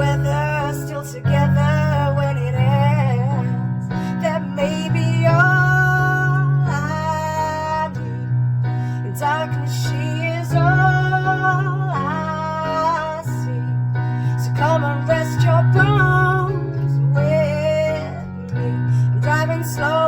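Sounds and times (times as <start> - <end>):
slow pop song: 0.0 - 20.0.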